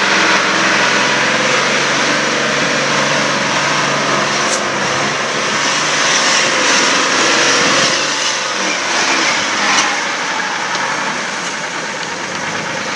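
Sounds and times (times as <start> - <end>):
diesel engine running: 0.0 - 12.9
loud steady rushing noise: 0.0 - 12.9.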